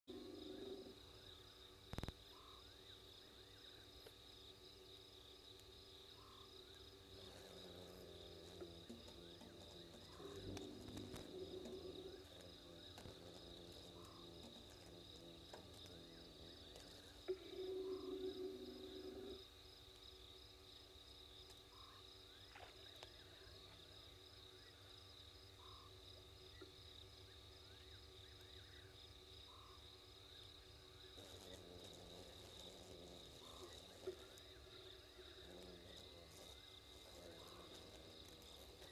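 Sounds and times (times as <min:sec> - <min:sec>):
frogs croaking: 0:00.1 - 0:20.5, 0:21.4 - 0:38.9
crickets trilling: 0:00.1 - 0:38.9.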